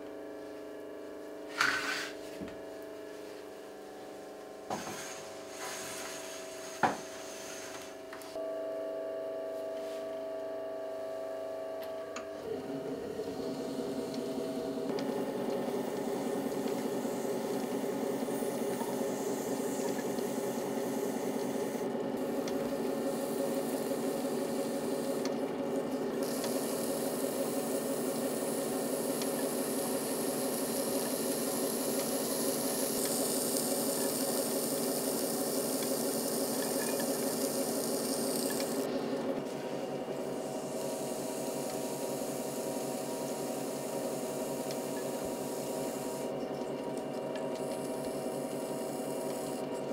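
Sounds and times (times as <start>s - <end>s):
potter's wheel hum: 9.8s - 49.9s.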